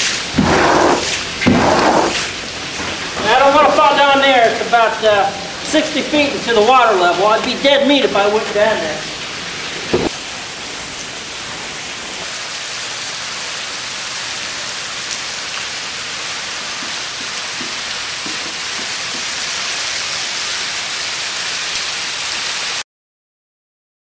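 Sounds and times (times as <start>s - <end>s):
water splashing from hose: 0.0s - 22.8s.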